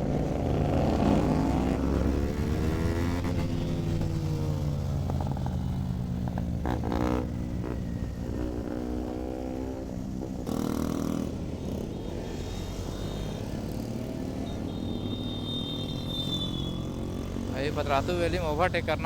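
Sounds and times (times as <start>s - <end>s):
motorcycle engines accelerating: 0.0s - 19.0s.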